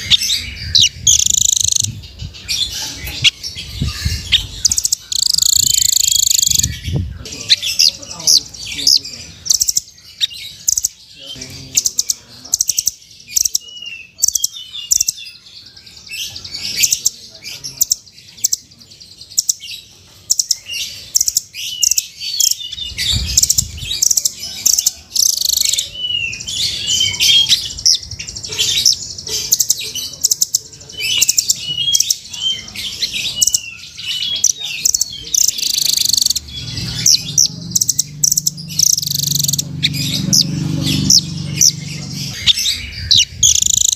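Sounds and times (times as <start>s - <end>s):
nuthatch chips and trills: 0.0s - 43.9s.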